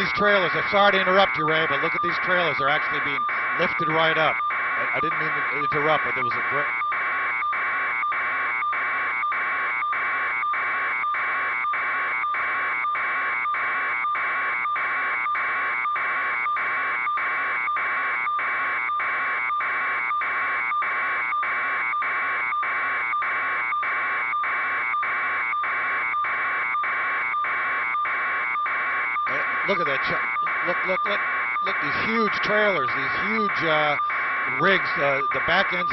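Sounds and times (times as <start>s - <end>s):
electronic alarm beeping: 0.0s - 35.9s.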